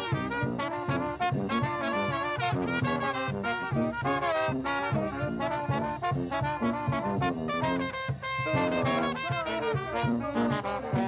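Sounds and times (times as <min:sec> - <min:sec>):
bass drum beat: 0:00.0 - 0:11.0
brass band playing jazz: 0:00.0 - 0:11.0.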